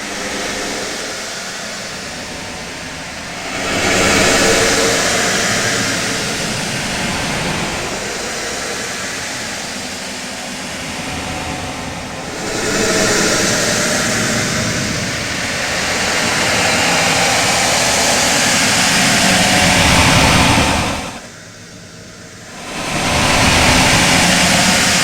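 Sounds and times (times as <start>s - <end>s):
rushing rumbling space drone: 0.0s - 21.3s, 22.0s - 25.0s.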